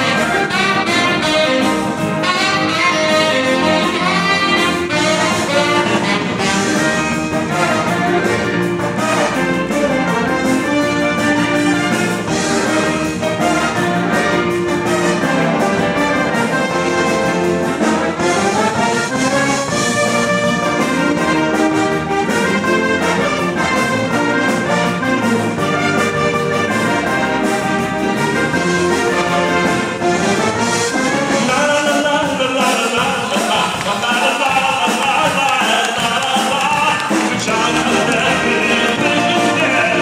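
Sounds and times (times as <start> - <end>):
wind orchestra playing dance tune: 0.0 - 40.0.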